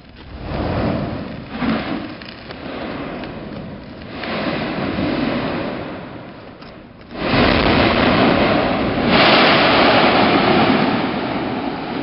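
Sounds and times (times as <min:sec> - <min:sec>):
volcanic vent erupting: 0:00.0 - 0:12.0
deep rushing hiss: 0:00.3 - 0:06.4, 0:07.1 - 0:12.0.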